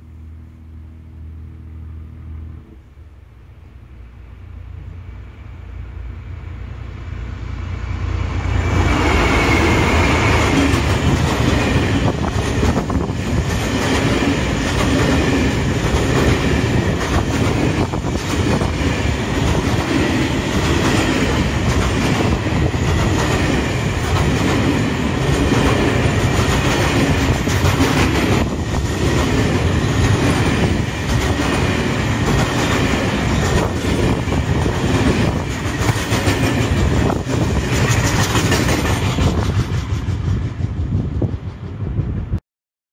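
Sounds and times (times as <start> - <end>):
diesel locomotives: 0.0 - 42.4
train wheels rumbling and clacking: 6.4 - 42.4.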